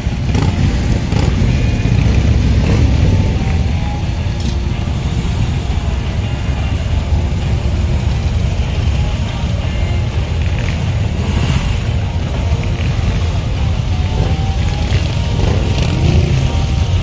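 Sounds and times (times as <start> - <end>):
motorcycles passing at low speed: 0.0 - 17.0.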